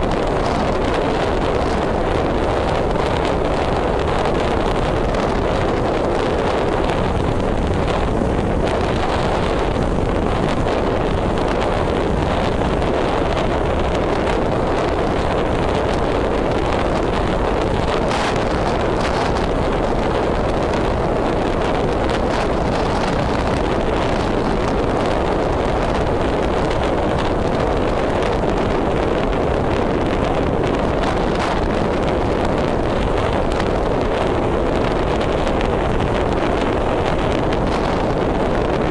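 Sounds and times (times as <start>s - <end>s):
car road noise: 0.0s - 38.9s
wind buffeting microphone: 0.0s - 38.9s.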